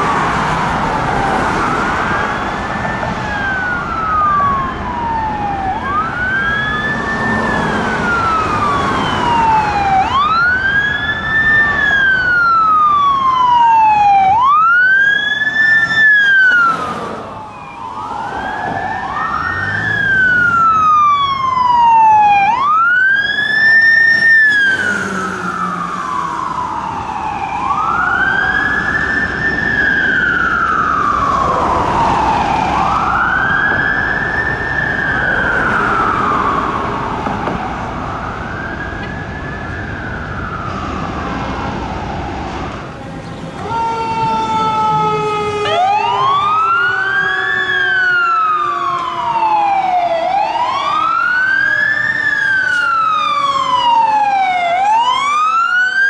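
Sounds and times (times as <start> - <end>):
fire truck sirens wailing: 0.0 - 56.0.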